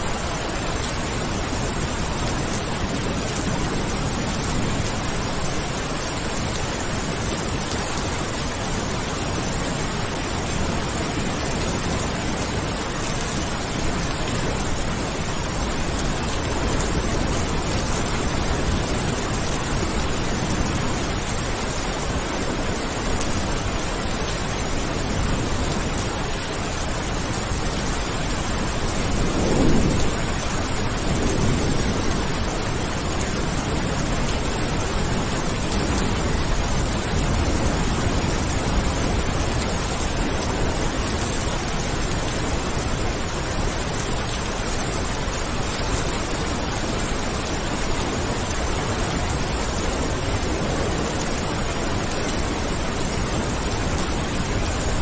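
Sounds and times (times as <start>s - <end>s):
low rumble of thunder: 0.0s - 55.0s
rain hiss: 0.0s - 55.0s.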